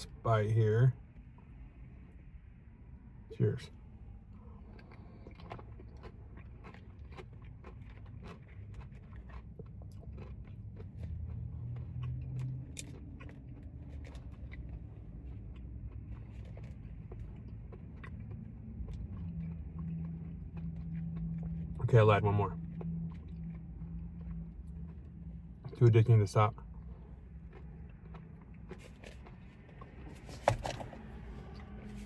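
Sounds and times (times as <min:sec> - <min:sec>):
steady low hum: 0:00.0 - 0:07.7, 0:08.4 - 0:32.0
person chewing crunchy food: 0:04.0 - 0:25.8, 0:26.6 - 0:32.0.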